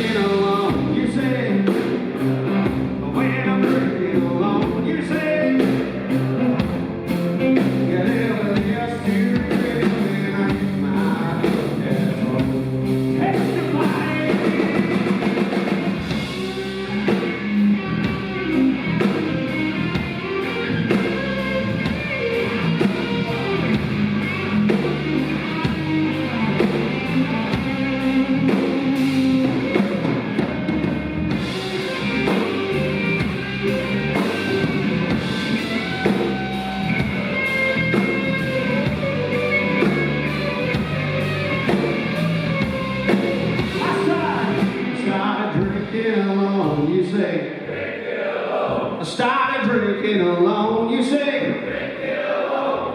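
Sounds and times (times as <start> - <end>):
drum kit beat: 0.0 - 46.0
electric guitar: 0.0 - 47.2.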